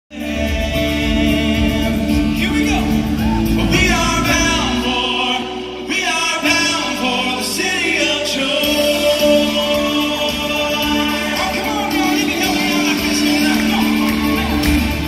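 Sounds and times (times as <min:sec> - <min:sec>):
acoustic guitars: 0:00.1 - 0:15.0.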